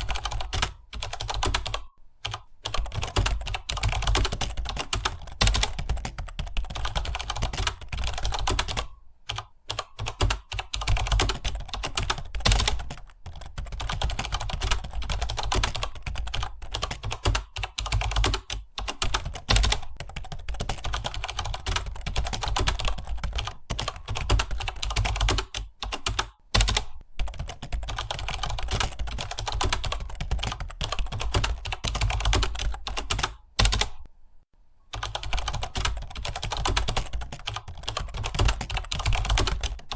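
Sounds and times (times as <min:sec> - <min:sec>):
fast typing on keyboard: 0:00.0 - 0:34.1, 0:34.9 - 0:39.9.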